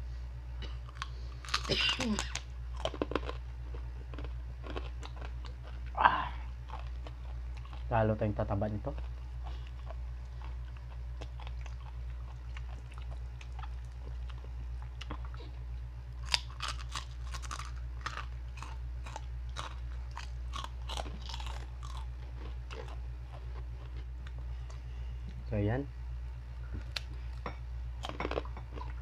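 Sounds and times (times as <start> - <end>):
steady low hum: 0.0 - 29.0
crunchy pork rinds chewed: 0.6 - 25.4, 26.7 - 29.0.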